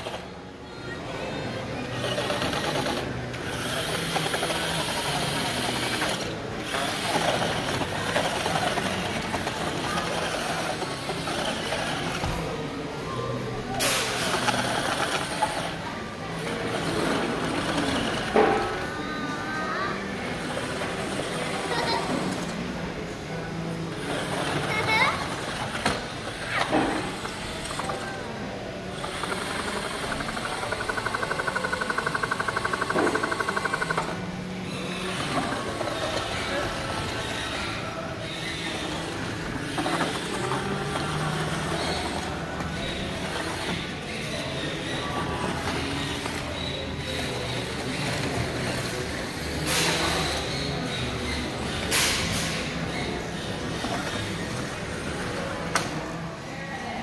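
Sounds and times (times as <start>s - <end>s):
toy truck electric motor and gears: 0.0s - 22.9s, 23.9s - 56.2s.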